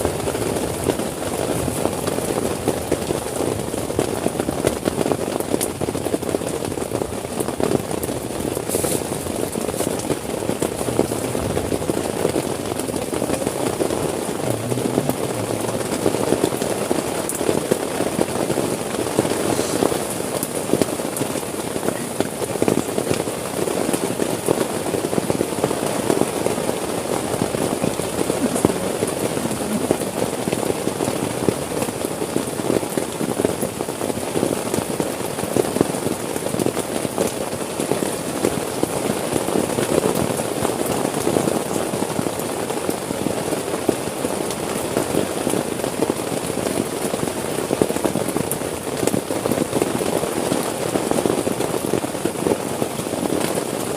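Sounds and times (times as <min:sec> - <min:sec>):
heavy rain on a tent: 0:00.0 - 0:53.9.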